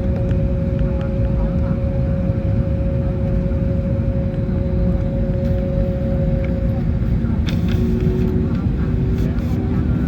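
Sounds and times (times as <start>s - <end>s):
aircraft cabin low rumble: 0.0s - 10.0s
steady engine hum: 0.0s - 10.0s.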